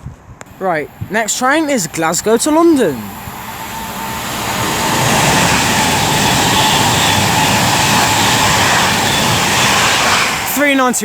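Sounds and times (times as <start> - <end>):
electric train passing at speed: 0.5 - 11.0.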